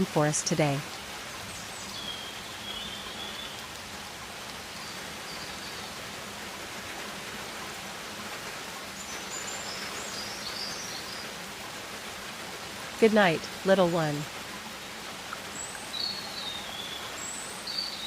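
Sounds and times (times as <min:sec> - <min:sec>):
steady hiss of rain: 0:00.0 - 0:18.0.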